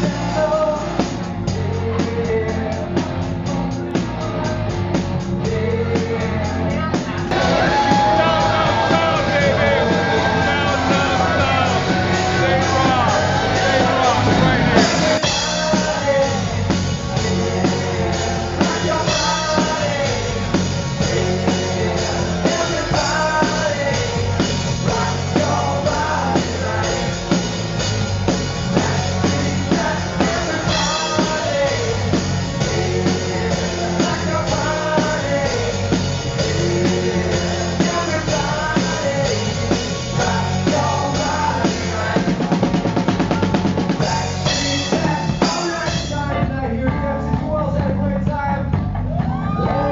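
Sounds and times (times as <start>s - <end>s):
person singing: 0.0s - 27.6s, 28.7s - 49.9s
drum-kit beat: 0.0s - 49.9s
rock band music: 0.0s - 49.9s.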